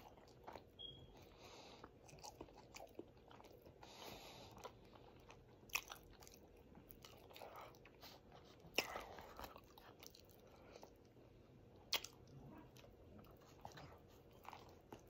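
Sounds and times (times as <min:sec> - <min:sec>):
person chewing with lip smacks: 0:00.0 - 0:15.0.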